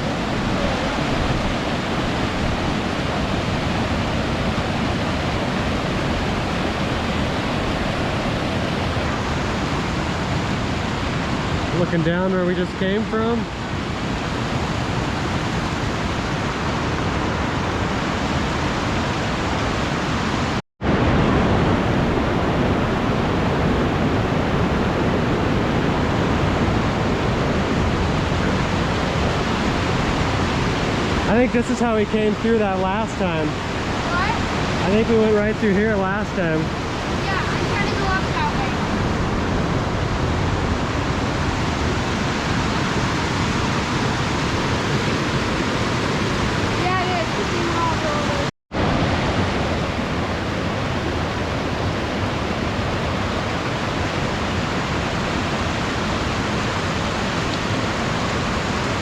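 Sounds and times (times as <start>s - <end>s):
creek rushing over boulders: 0.0s - 59.0s.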